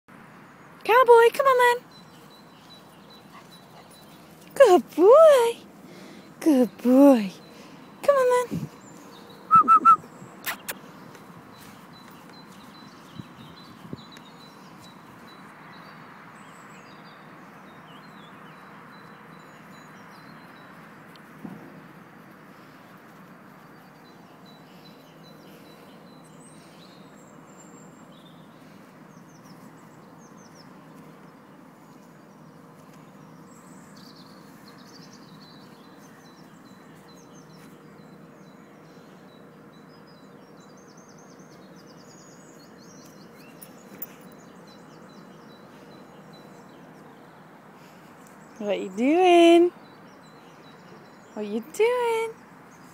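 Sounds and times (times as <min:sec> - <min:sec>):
birds chirping: 0:00.1 - 0:52.9
outdoor background noise: 0:00.1 - 0:52.9.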